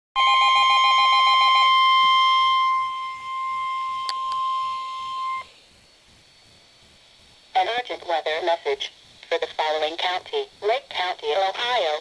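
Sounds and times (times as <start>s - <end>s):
rapidly pulsing tone: 0.2s - 12.0s
steady warning alarm tone: 0.2s - 12.0s.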